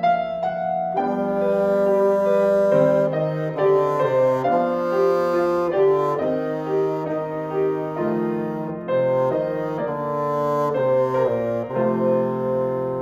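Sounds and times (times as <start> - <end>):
piano accompaniment: 0.0 - 13.0
bassoon playing a melody: 0.2 - 13.0.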